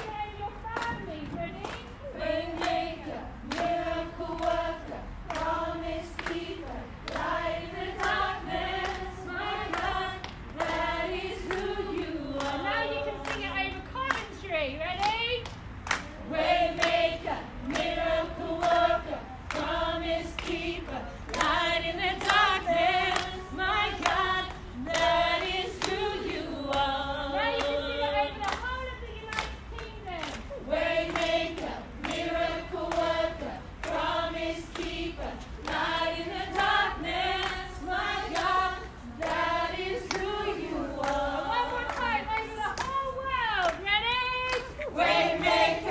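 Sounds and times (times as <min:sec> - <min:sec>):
hand clapping: 0:00.0 - 0:14.4, 0:15.0 - 0:17.0, 0:19.5 - 0:26.9, 0:28.4 - 0:45.9.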